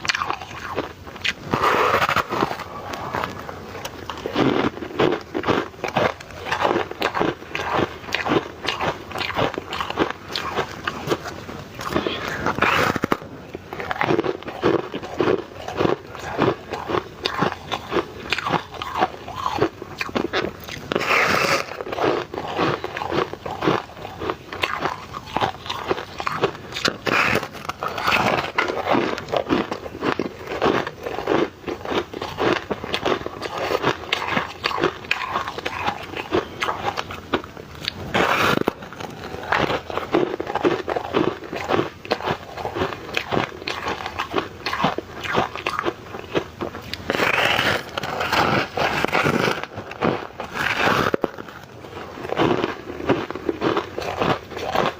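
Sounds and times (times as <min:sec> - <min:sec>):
chewing ice cubes: 0:00.0 - 0:54.9.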